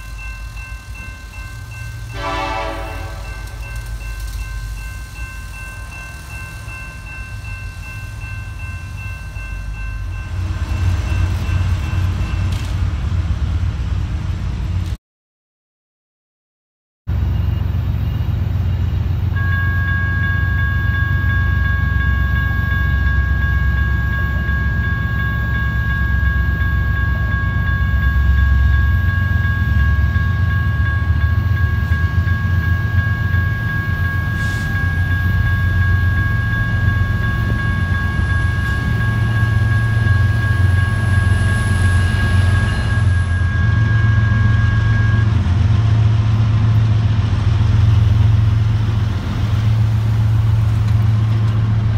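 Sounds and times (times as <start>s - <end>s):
railroad crossing bell ringing: 0.0s - 13.2s, 17.1s - 51.9s.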